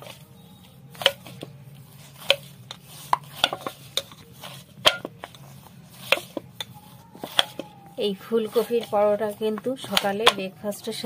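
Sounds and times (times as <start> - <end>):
dough kneaded by hand: 0.0 - 11.0.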